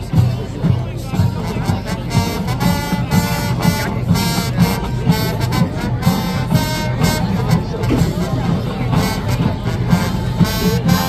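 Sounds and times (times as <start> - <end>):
drum beat: 0.0 - 11.0
marching band playing: 0.0 - 11.0.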